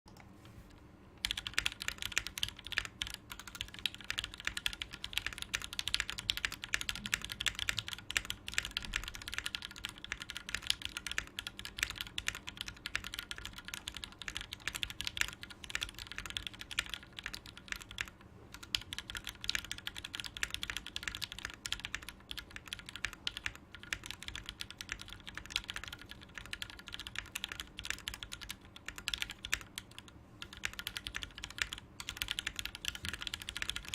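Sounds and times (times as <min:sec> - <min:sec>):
typing on mechanical keyboard: 0:01.2 - 0:33.9.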